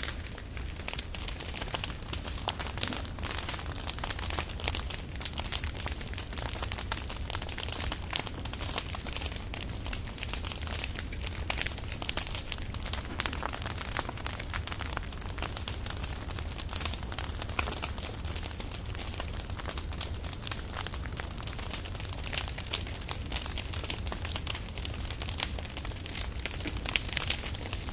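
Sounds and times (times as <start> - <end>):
firewood crackling: 0.0 - 27.9.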